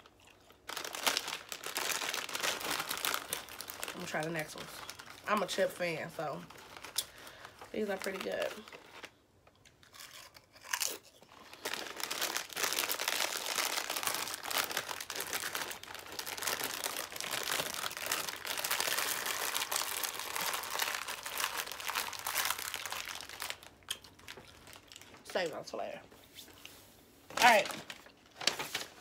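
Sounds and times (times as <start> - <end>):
chip crunching: 0.0 - 5.7, 6.4 - 25.2
plastic bag crackling: 0.0 - 9.2, 10.7 - 25.5, 27.3 - 29.0.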